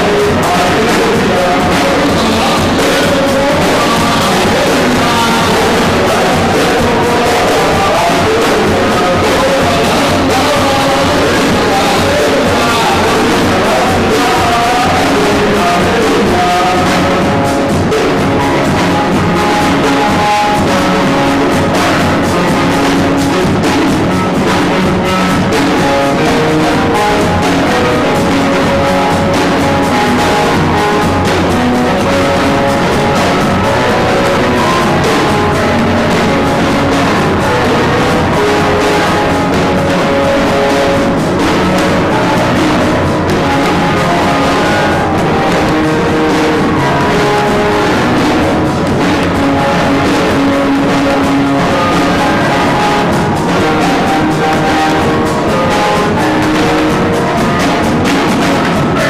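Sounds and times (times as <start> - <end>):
loud band music: 0.0 - 59.0.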